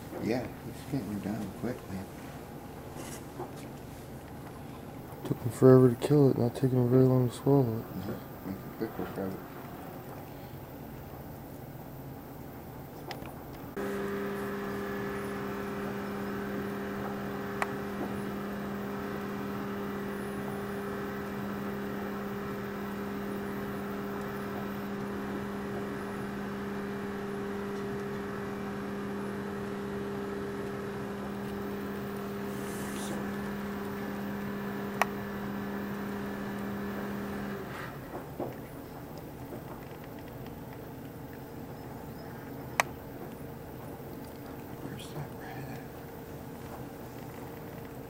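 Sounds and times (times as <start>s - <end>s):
electric motor hum: 3.0s - 10.3s, 13.6s - 48.0s.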